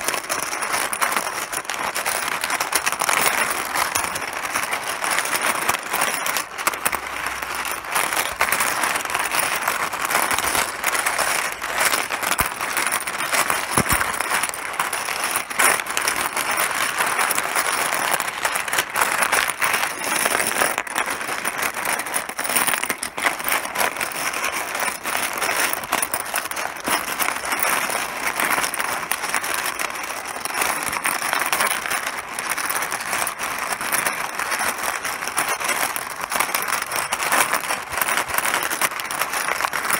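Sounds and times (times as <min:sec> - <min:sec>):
mahjong tiles clattering: 0:00.0 - 0:39.9.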